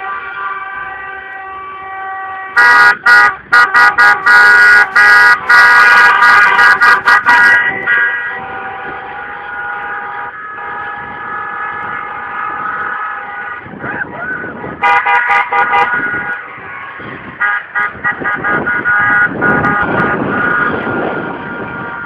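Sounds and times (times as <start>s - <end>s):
car horns honking: 0.0s - 22.0s.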